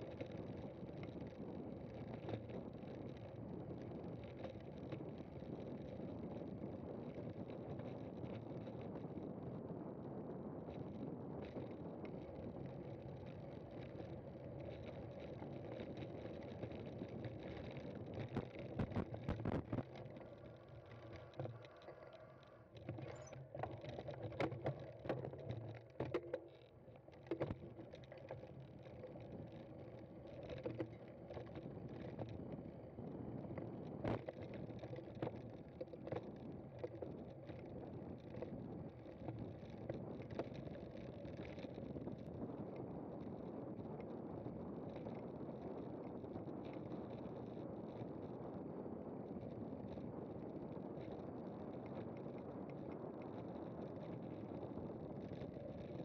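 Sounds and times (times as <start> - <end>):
bike tyre riding noise: 0.0 - 56.0.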